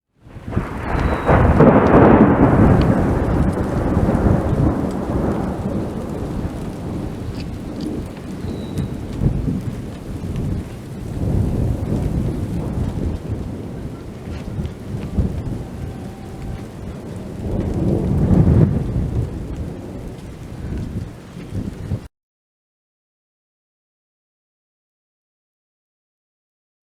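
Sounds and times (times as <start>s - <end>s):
rolling thunder: 0.2s - 22.1s
steady rain: 0.2s - 22.1s.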